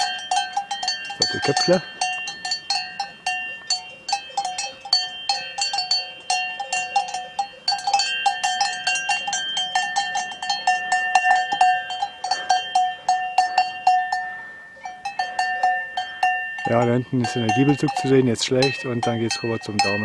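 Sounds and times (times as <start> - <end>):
cowbells clanking: 0.0 - 20.0.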